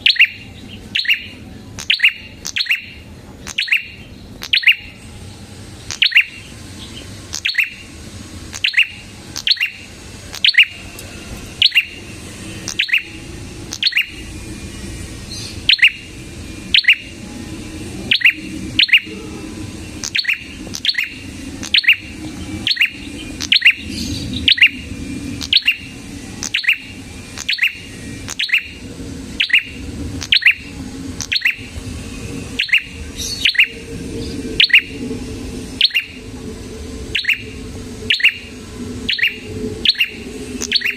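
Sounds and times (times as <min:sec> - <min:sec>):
bird chirping: 0:00.0 - 0:36.4, 0:37.0 - 0:40.9.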